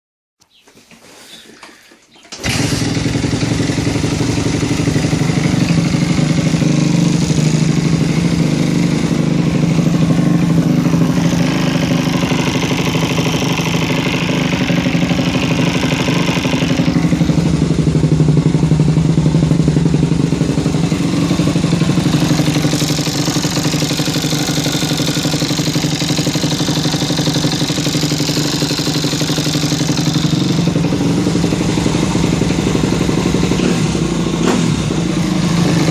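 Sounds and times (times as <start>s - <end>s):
motorbike engine idling clattery: 2.3s - 35.9s.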